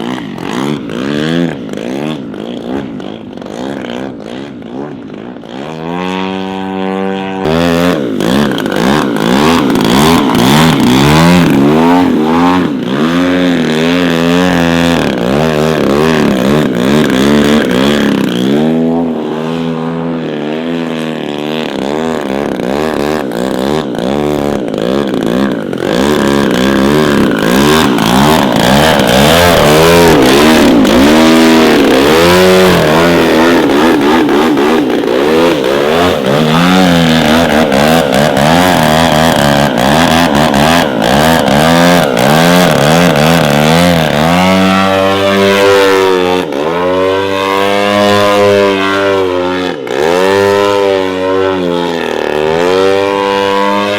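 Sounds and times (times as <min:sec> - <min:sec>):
model airplane engine: 0:00.0 - 0:53.9.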